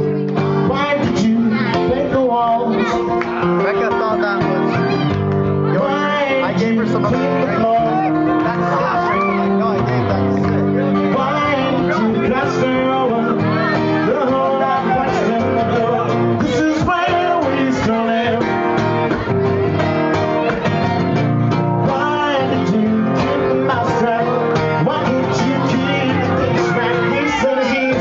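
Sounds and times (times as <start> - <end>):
man singing into microphone: 0.0 - 5.0, 5.6 - 18.8, 21.8 - 28.0
acoustic guitar: 0.0 - 28.0.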